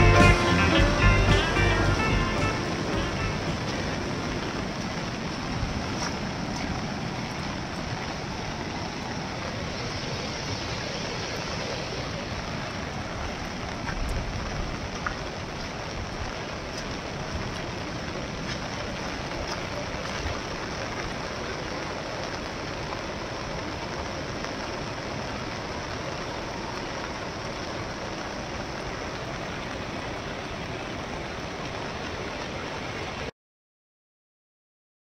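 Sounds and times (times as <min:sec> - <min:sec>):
river rushing: 0:00.0 - 0:33.3.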